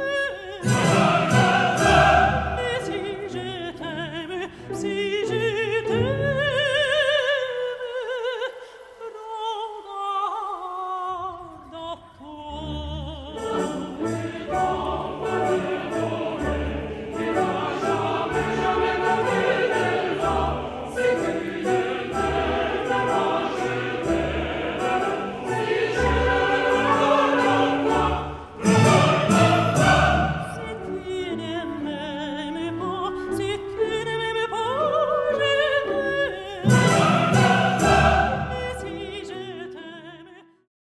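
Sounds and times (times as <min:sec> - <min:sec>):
operatic singing: 0:00.0 - 0:40.4
orchestral accompaniment: 0:00.6 - 0:07.0, 0:12.6 - 0:39.5.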